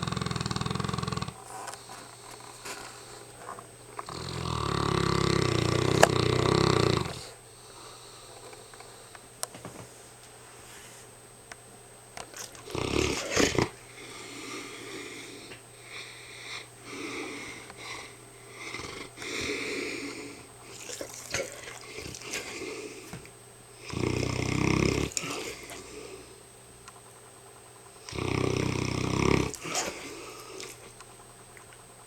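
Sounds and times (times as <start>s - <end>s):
dog snoring: 0.0s - 8.7s, 12.4s - 26.4s, 28.0s - 31.0s.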